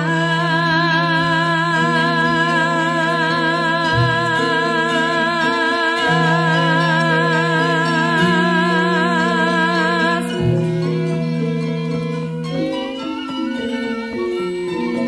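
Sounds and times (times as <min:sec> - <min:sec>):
long wavering melodic line: 0:00.0 - 0:15.0
metallophone notes: 0:00.0 - 0:15.0.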